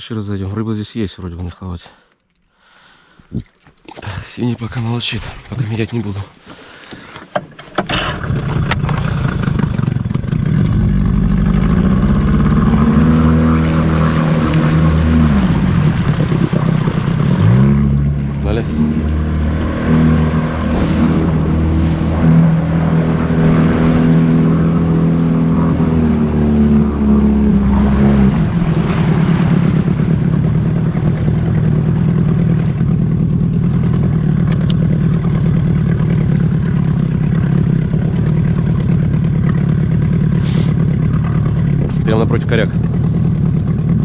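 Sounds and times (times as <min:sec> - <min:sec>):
outboard motor running: 0:01.9 - 0:44.0.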